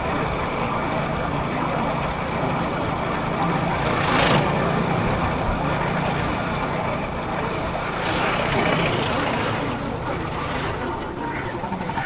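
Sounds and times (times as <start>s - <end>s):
motorcycle engine humming: 0.0s - 11.6s.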